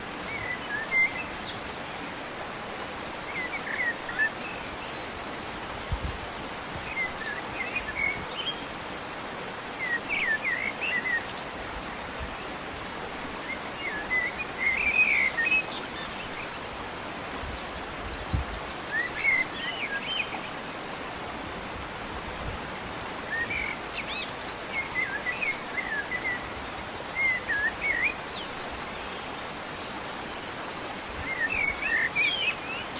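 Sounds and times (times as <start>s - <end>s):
stream rushing water: 0.0s - 32.9s.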